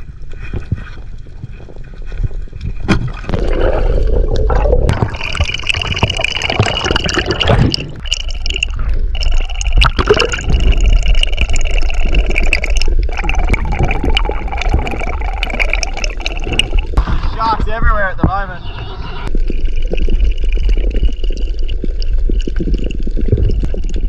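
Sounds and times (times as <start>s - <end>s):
low rumble of water: 0.0s - 18.2s, 19.1s - 24.0s
water sloshing and gurgling: 0.0s - 24.0s.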